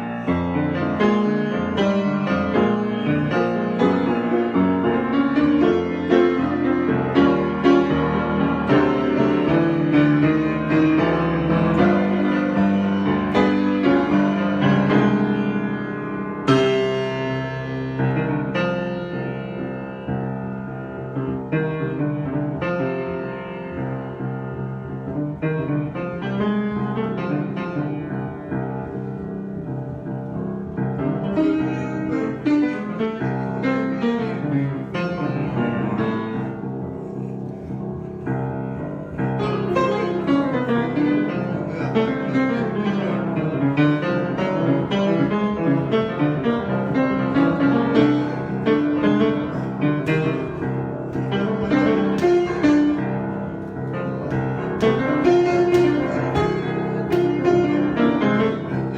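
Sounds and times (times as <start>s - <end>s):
solo piano playing: 0.0s - 58.9s.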